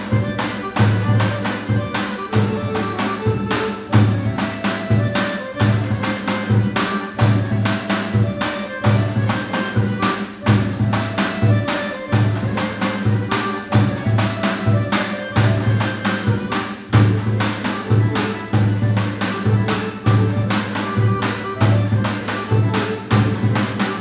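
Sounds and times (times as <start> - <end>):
bowed string folk melody: 0.0 - 24.0.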